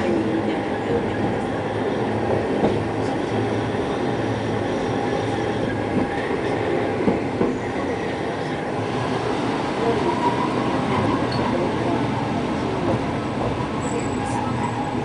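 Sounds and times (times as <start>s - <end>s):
tram wheels rumbling on rail: 0.0s - 15.0s.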